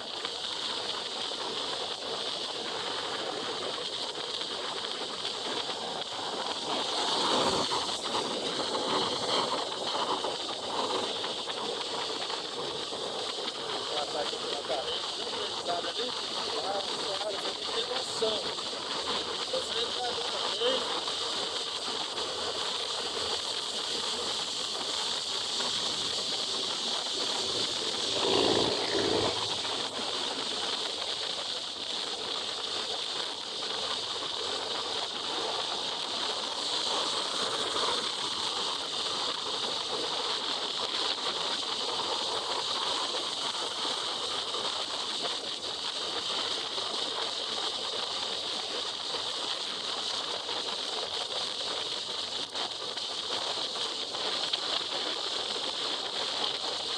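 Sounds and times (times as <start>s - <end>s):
wind and rain on helmet: 0.0s - 56.9s.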